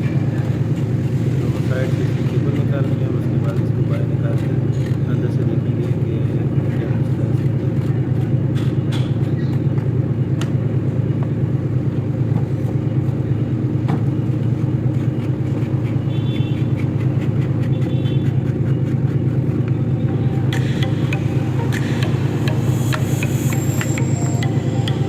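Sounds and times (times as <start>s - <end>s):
low engine drone: 0.0s - 25.0s.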